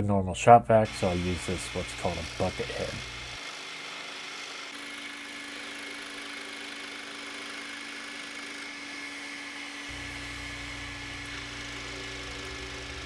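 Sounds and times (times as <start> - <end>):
scroll saw cutting wood: 0.8 - 13.0
shop vacuum running: 0.8 - 13.0.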